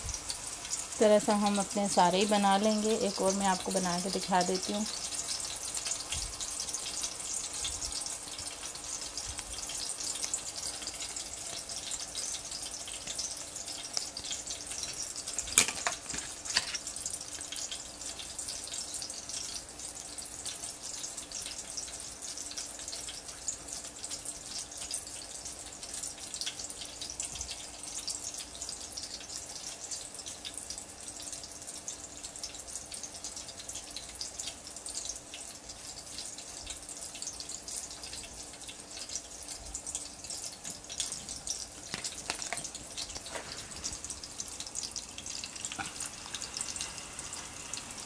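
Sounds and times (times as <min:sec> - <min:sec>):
meat sizzling in oil: 0:00.0 - 0:48.0.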